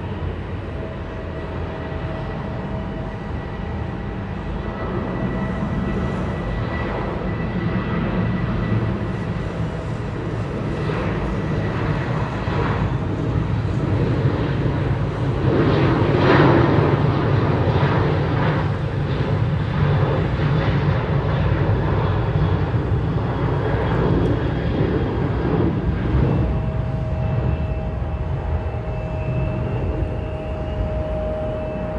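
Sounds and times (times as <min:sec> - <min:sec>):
jet airliner engines passing: 0:00.0 - 0:31.9.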